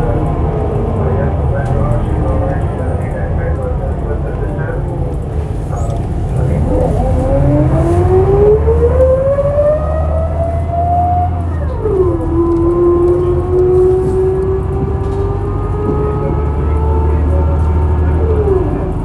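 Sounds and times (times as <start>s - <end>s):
bus engine low rumble: 0.0s - 19.0s.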